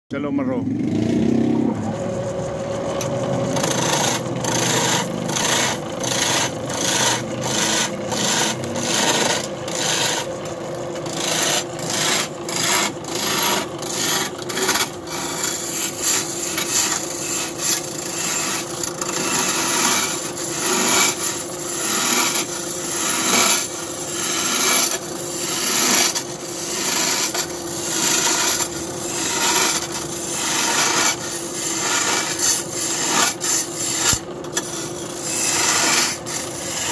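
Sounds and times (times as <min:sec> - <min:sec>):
chisel scraping spinning wood: 0:01.5 - 0:36.9
lathe motor humming: 0:01.6 - 0:36.9.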